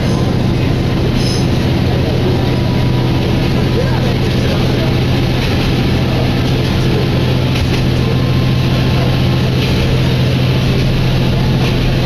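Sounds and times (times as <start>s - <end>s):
diesel engine drone: 0.0s - 12.0s
train cabin rumble: 0.0s - 12.0s.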